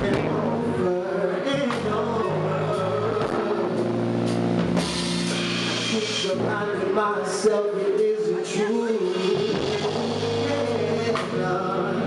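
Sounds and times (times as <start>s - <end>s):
drum kit: 0.0s - 0.9s, 1.5s - 6.8s, 8.5s - 12.0s
electric bass: 0.0s - 7.6s, 9.1s - 12.0s
guitar: 0.0s - 12.0s
keyboard: 0.0s - 12.0s.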